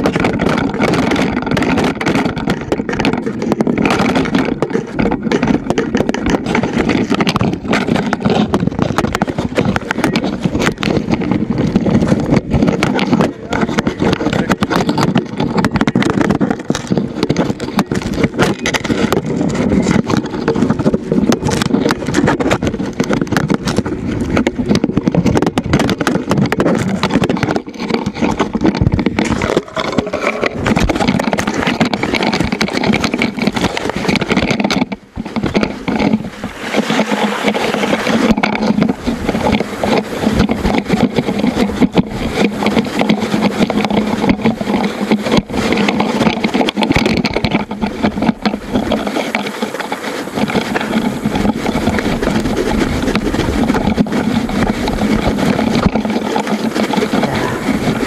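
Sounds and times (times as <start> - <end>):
bike rumble on dirt trail: 0.0 - 58.0
loose camera rattling: 0.0 - 58.0.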